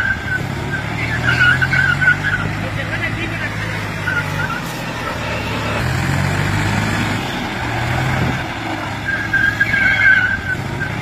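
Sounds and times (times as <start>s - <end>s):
car engine straining: 0.0s - 11.0s
tractor diesel engine straining: 0.0s - 11.0s
tyres spinning in dirt: 0.0s - 11.0s.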